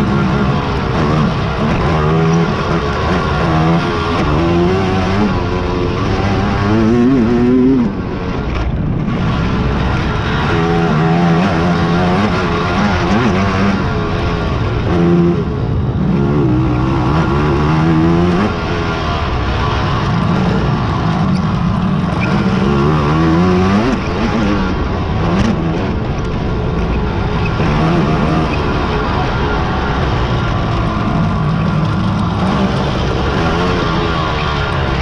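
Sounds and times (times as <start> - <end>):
quad engines revving: 0.0 - 35.0.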